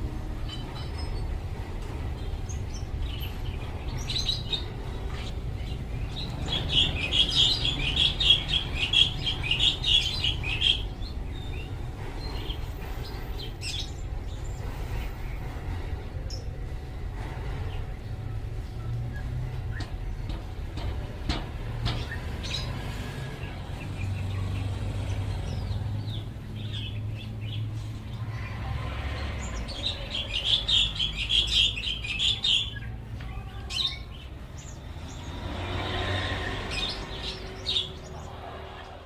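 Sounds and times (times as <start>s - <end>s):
small birds chirping: 0.4s - 20.9s, 21.8s - 39.0s.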